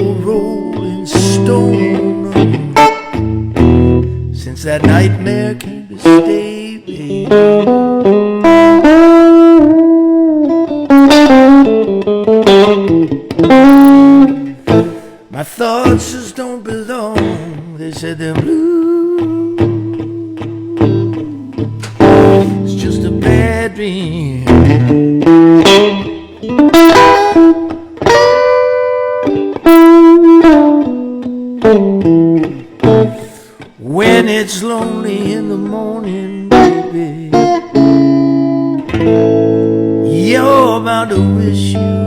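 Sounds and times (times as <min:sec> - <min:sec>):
electric guitar blues lick: 0:00.0 - 0:42.0.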